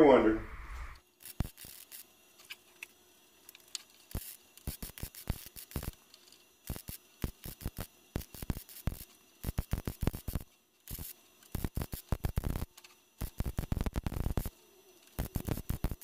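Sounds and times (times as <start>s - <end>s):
welder crackling: 0.1s - 16.0s.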